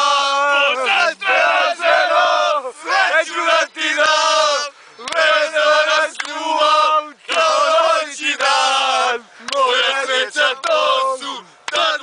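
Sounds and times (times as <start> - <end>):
men singing loudly together: 0.0 - 12.0.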